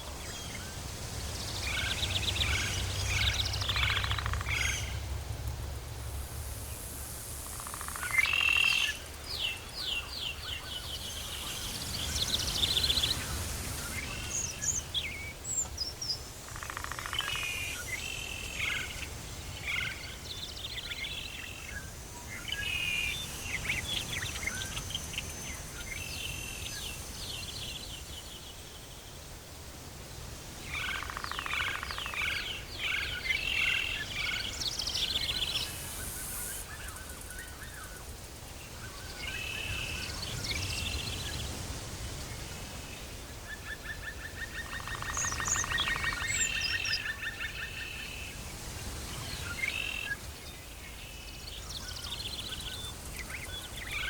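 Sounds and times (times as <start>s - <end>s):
birds calling and chirping: 0.0s - 5.1s, 7.6s - 28.5s, 30.7s - 54.0s.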